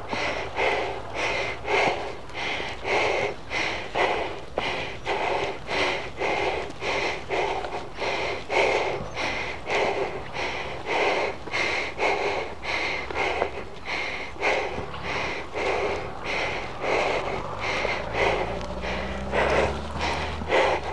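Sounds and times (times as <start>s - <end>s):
person panting heavily: 0.0s - 20.9s.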